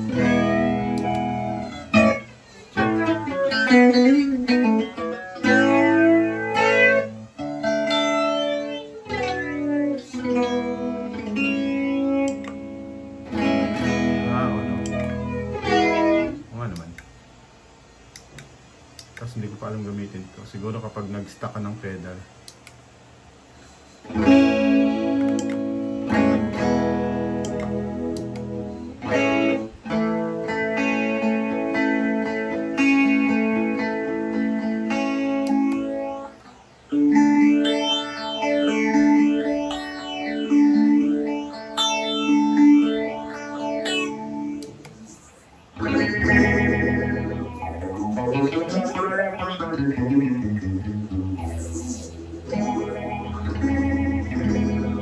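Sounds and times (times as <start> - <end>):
guitar chords strummed with effects: 0.0 - 17.2, 24.0 - 55.0.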